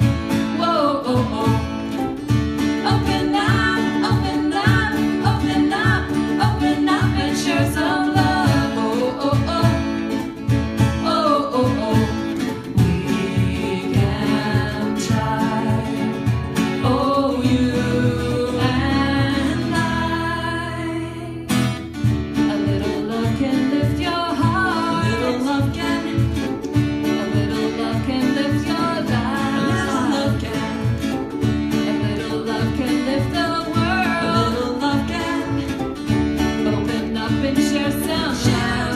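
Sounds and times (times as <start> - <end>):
person singing: 0.0 - 10.3, 11.0 - 21.5, 22.4 - 38.9
live band with steady beat: 0.0 - 20.4, 21.5 - 38.9.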